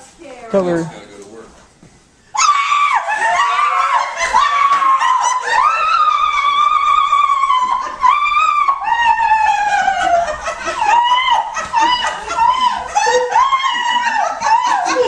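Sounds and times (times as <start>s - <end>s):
woman crying and wailing: 2.4s - 15.0s.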